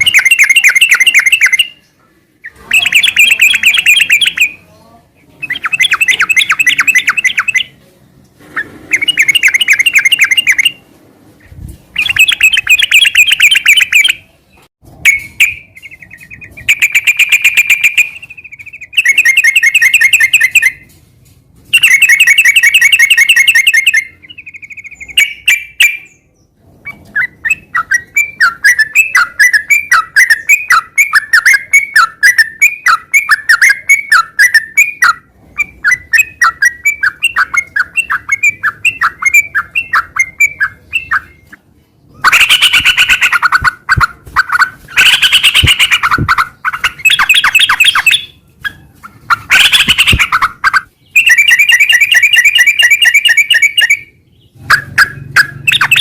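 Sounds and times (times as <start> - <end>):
bird singing: 0.0 - 7.8, 8.9 - 10.8, 12.0 - 20.8, 21.7 - 41.5, 42.1 - 56.0.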